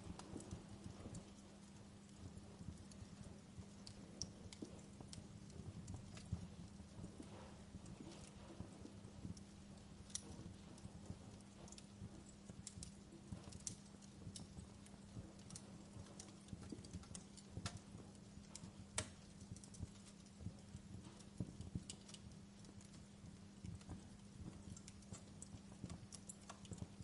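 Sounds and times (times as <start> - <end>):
faint low hum: 0.0 - 27.0
wood fire crackling: 0.0 - 27.0.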